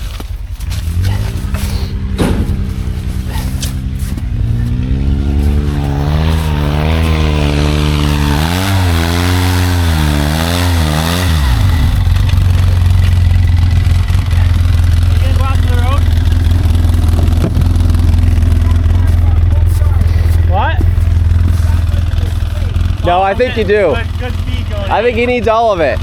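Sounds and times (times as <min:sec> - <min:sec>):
engine revving under load: 0:00.0 - 0:26.0.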